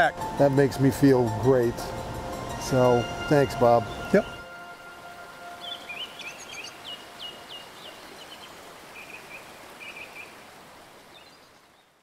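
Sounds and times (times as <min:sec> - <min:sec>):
birds chirping: 0:01.4 - 0:12.0.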